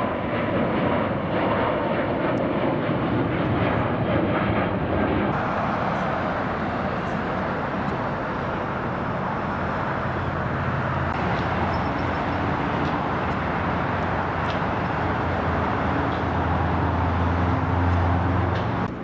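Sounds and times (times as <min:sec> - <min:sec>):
airport and road traffic roar: 0:00.0 - 0:19.0
low engine hum: 0:00.1 - 0:19.0.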